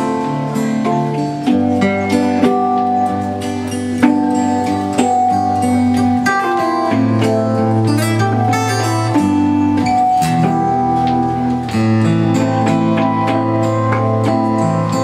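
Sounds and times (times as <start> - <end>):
guitar playing: 0.0 - 15.0
live band music: 0.0 - 15.0.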